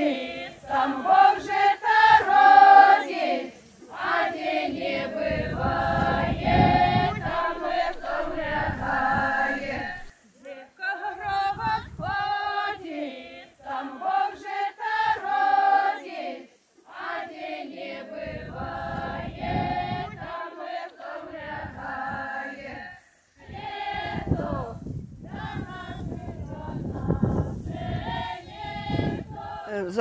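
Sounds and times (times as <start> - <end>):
women singing folk song unaccompanied: 0.0 - 29.7.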